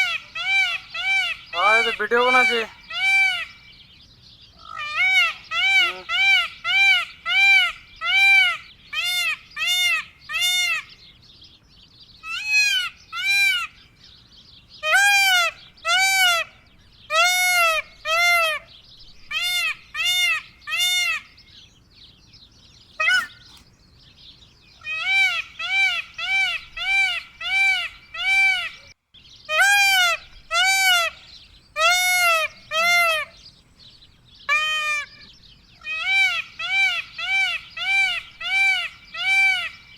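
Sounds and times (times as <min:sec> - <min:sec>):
peafowl calling: 0:00.0 - 0:03.8, 0:04.4 - 0:11.0, 0:12.2 - 0:14.0, 0:14.8 - 0:21.4, 0:22.9 - 0:23.6, 0:24.8 - 0:28.9, 0:29.5 - 0:33.6, 0:34.4 - 0:39.9.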